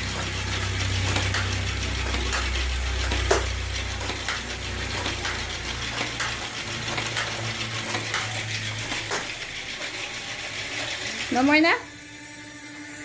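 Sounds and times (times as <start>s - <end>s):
mechanism clacking: 0.0s - 11.5s
toy motor humming: 0.0s - 13.0s.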